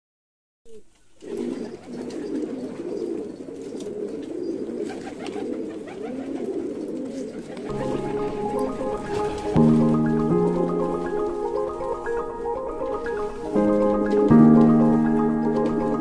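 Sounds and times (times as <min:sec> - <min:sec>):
pigeons cooing: 0:00.7 - 0:16.0.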